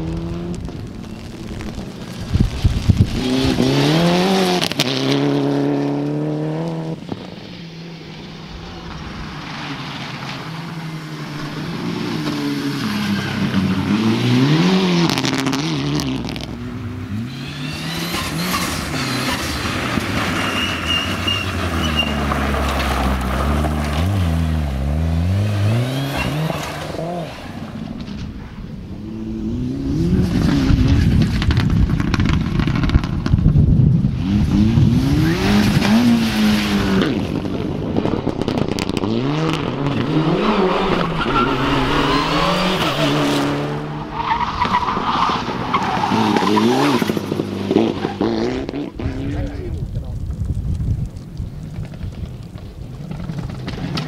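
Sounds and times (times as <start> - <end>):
rally car engines revving: 0.0 - 50.0
tyre noise on gravel and asphalt: 0.0 - 54.0.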